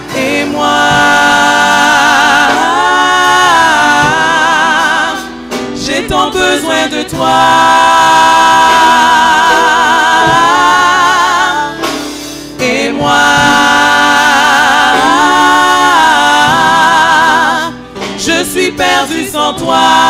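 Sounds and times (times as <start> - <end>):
group singing in harmony: 0.0 - 20.0.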